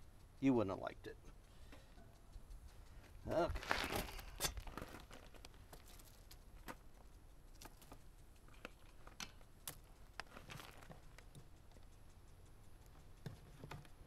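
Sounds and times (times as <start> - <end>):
faint clicks and taps: 0.0 - 14.0.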